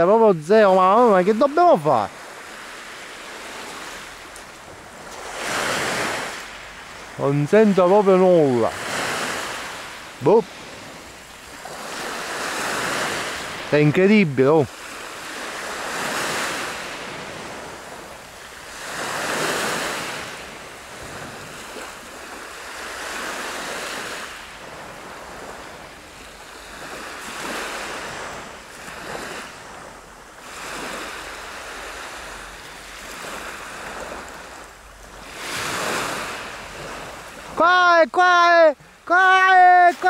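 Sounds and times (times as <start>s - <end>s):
waves washing up pebble beach: 0.0s - 40.0s.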